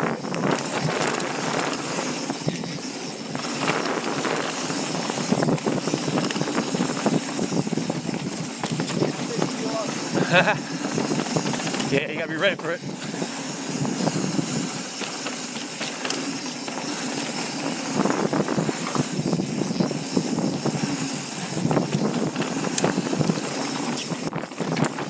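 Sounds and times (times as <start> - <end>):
bike rattling and knocking: 0.0 - 25.0
tyres and air rushing: 0.0 - 25.0.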